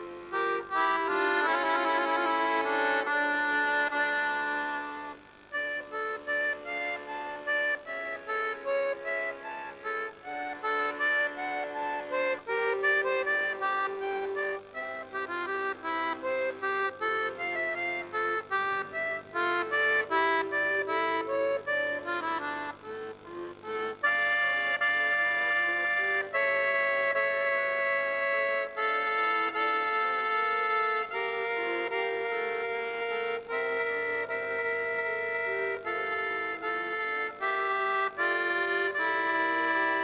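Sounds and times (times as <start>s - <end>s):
piano accordion playing: 0.0s - 40.0s.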